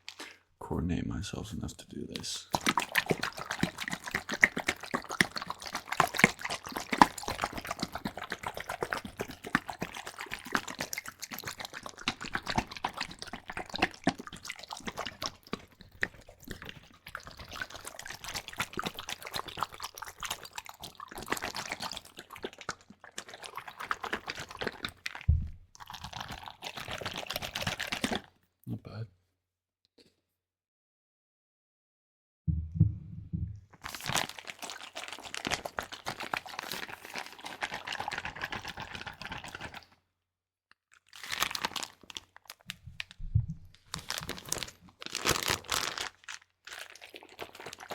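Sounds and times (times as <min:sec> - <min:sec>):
wet liquid clicks and crackles: 0:00.0 - 0:00.4, 0:02.2 - 0:28.4, 0:33.7 - 0:40.0, 0:40.7 - 0:47.9.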